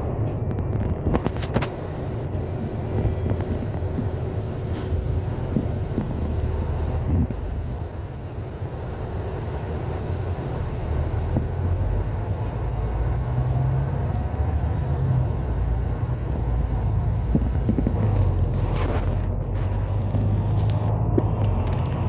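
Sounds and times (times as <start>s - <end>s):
bus engine and cabin rumble: 0.0s - 22.0s.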